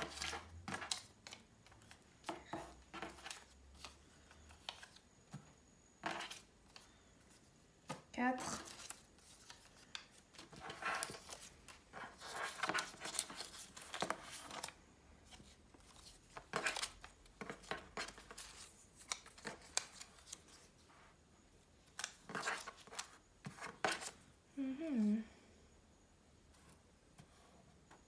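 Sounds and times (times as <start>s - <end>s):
paper cards handled on wooden table: 0.0s - 21.0s, 21.8s - 24.2s.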